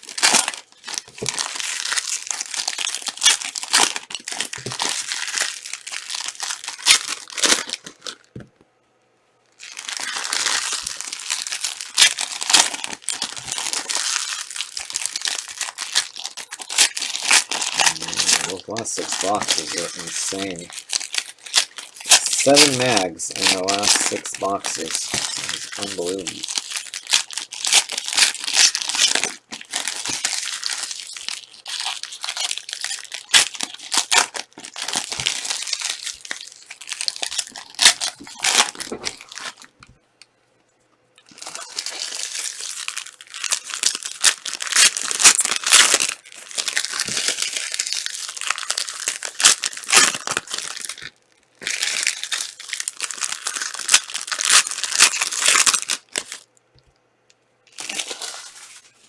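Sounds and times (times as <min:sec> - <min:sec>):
card pack wrappers crinkling: 0:00.0 - 0:08.4, 0:09.6 - 0:39.8, 0:41.2 - 0:56.5, 0:57.7 - 0:59.0.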